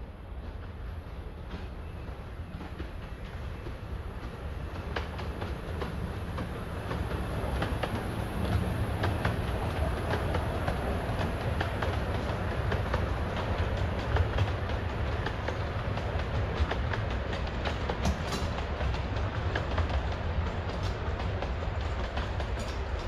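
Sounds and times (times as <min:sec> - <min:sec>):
steam train rumbling past: 0:00.0 - 0:23.0
wheels clicking on track: 0:01.5 - 0:23.0.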